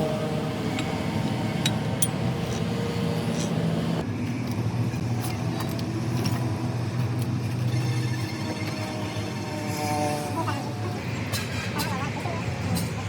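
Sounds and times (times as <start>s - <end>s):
engine running: 0.0s - 11.2s.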